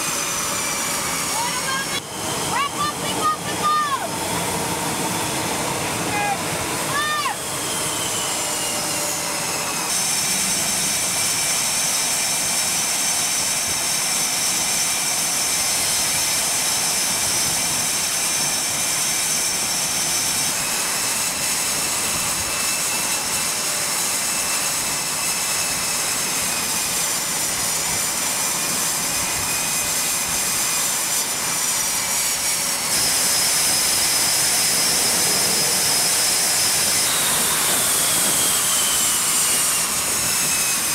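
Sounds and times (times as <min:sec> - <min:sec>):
high turbine whines: 0:00.0 - 0:40.9
jet engines rushing: 0:00.0 - 0:40.9.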